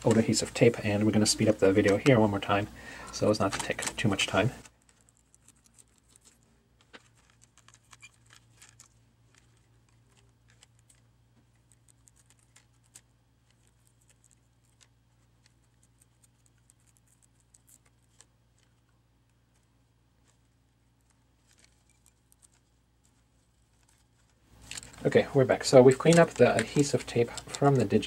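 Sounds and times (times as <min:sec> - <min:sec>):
low steady hum: 0:00.0 - 0:28.0
tape peeling: 0:03.3 - 0:28.0.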